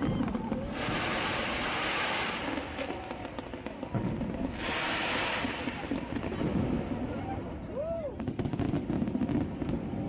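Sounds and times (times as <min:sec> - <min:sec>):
fireworks popping and crackling: 0:00.0 - 0:10.0.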